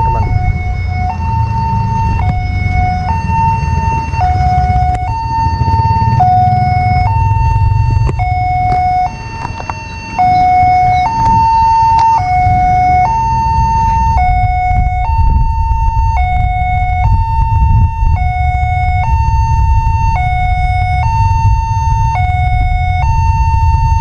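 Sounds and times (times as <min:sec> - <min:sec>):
low rumble: 0:00.0 - 0:09.4, 0:10.2 - 0:24.0
level crossing two-tone siren: 0:00.0 - 0:24.0.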